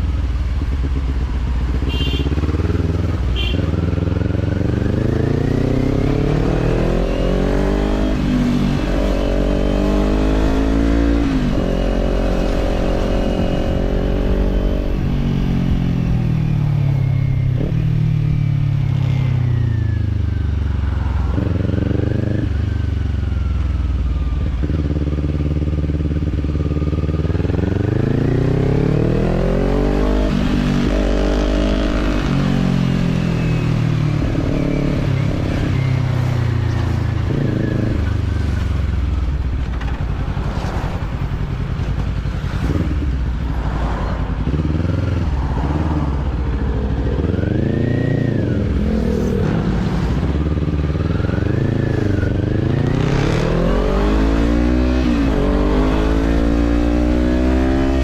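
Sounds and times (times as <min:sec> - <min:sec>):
motorcycle engine revving: 0:00.0 - 0:20.0, 0:20.7 - 0:58.0.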